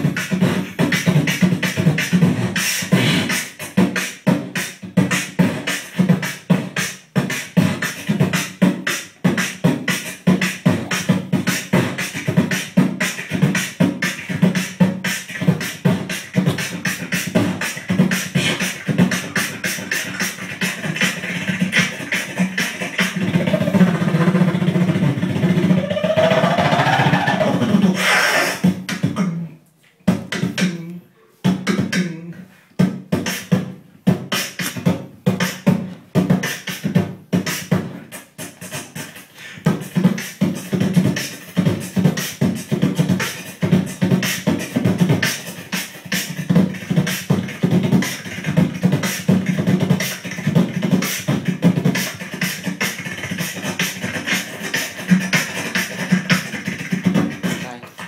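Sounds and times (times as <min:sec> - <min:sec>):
beatboxing clicks and pops: 0:00.0 - 0:58.0.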